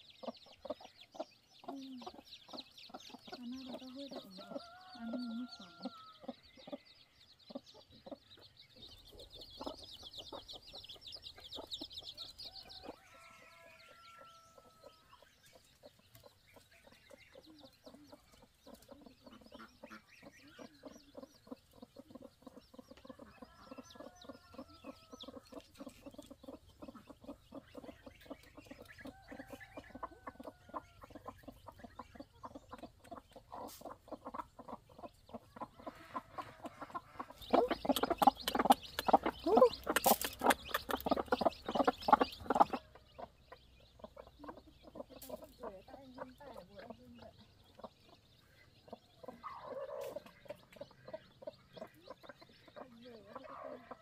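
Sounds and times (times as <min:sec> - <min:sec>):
chickens clucking: 0:00.0 - 0:54.0
high chirping: 0:00.0 - 0:54.0.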